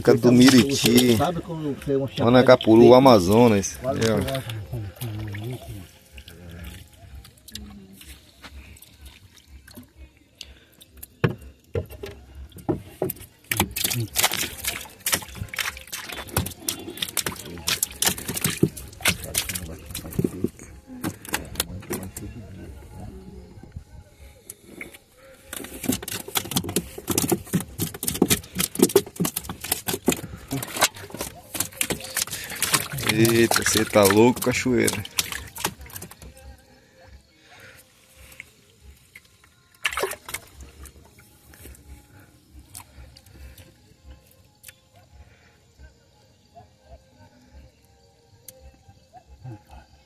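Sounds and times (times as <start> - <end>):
water splashing and sloshing: 0.0 - 22.3, 24.6 - 36.7, 37.6 - 44.7.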